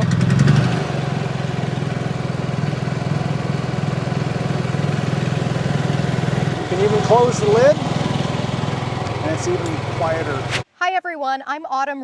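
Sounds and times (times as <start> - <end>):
generator engine running: 0.0 - 10.6.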